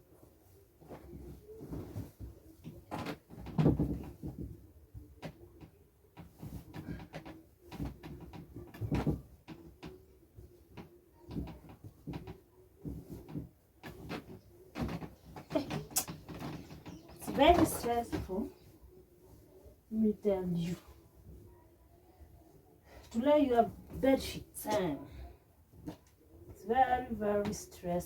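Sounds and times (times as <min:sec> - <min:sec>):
bed sheets rustling: 0:00.0 - 0:28.0.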